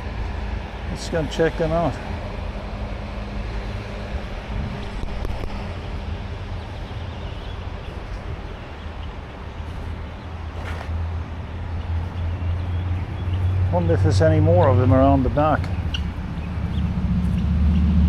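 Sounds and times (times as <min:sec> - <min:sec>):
low rumbling hum: 0:00.0 - 0:18.0
outdoor background noise: 0:00.0 - 0:18.0.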